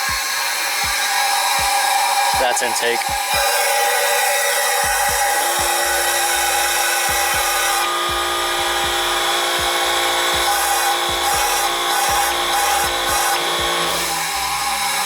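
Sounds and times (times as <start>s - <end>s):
compressed air hissing: 0.0s - 15.0s
steady whine: 0.0s - 15.0s.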